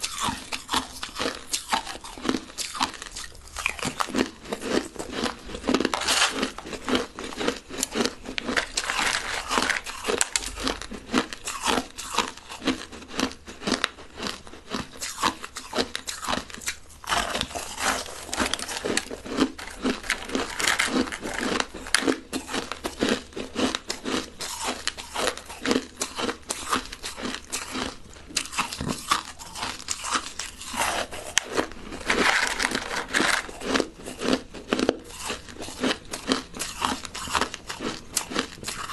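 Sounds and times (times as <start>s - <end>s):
crushed ice being chewed: 0.0s - 38.9s.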